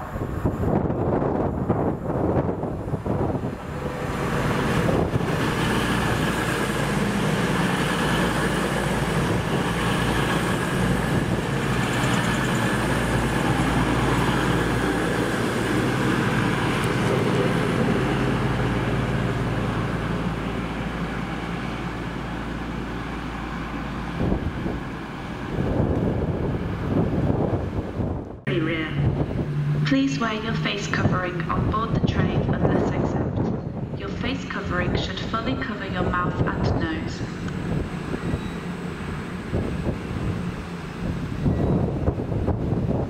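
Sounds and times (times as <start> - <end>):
diesel train engine: 0.0 - 43.0
rail and wheel noise: 0.0 - 43.0.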